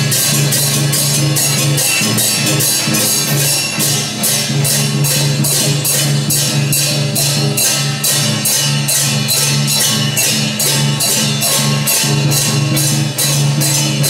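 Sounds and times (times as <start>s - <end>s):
fast bright percussion strikes: 0.0s - 14.0s.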